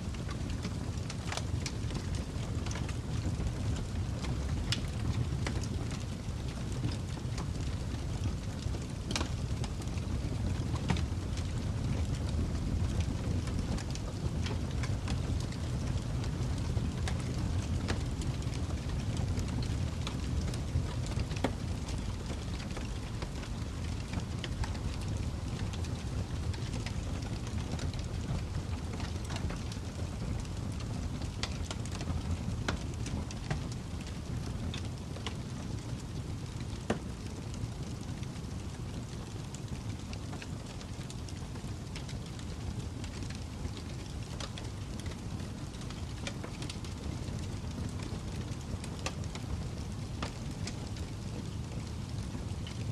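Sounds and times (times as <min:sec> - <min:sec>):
fire crackling: 0:00.0 - 0:52.9.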